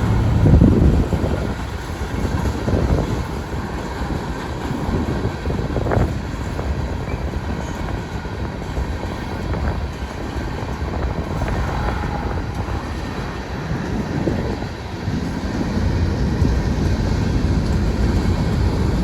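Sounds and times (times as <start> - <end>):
train cars clanking: 0.0 - 19.0
train wheels rumbling on rail: 0.0 - 19.0.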